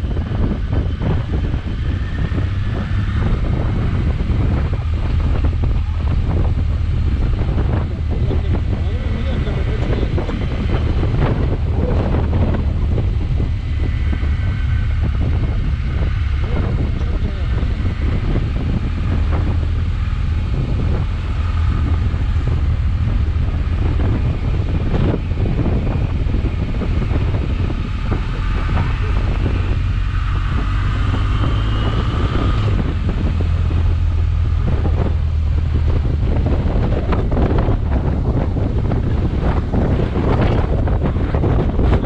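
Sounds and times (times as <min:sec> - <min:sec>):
faint whine: 0:00.0 - 0:42.0
motorcycle engine rumble: 0:00.0 - 0:42.0
wind buffeting microphone: 0:00.0 - 0:42.0.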